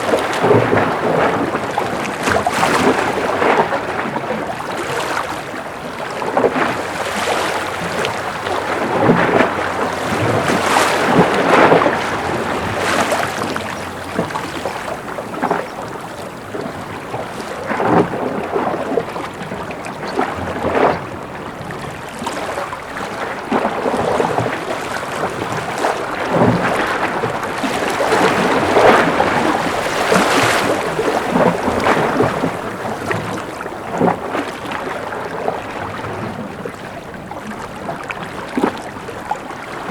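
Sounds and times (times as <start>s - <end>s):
ocean waves lapping: 0.0s - 39.9s.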